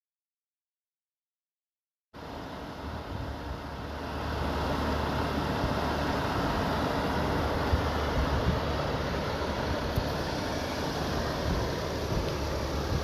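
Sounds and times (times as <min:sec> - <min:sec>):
car engine and road noise: 0:02.2 - 0:13.0.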